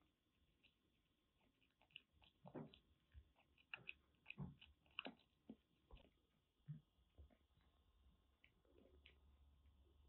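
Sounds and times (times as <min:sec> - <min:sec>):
kitten crunching dry kibble: 0:00.0 - 0:07.6, 0:08.2 - 0:09.8.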